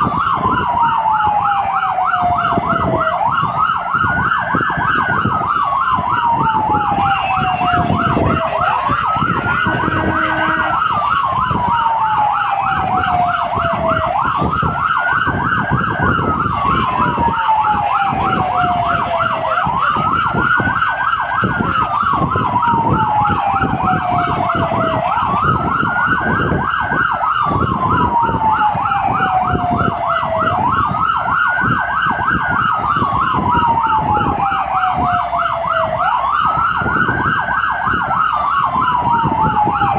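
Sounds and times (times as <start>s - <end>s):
engine and road rumble: 0.0s - 39.9s
fast siren yelp: 0.0s - 39.9s
siren wail: 0.0s - 39.9s.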